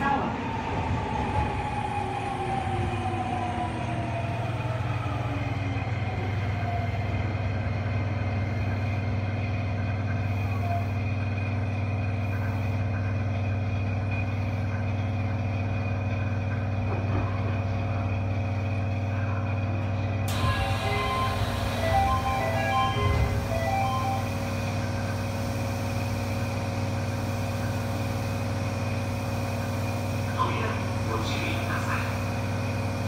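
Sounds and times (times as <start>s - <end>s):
subway train inverter whining: 0.0s - 33.0s.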